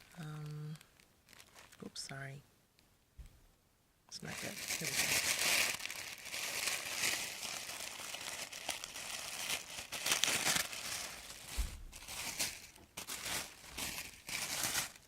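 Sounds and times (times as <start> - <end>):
packaging crinkling and rustling: 0.0 - 1.9, 4.2 - 15.0.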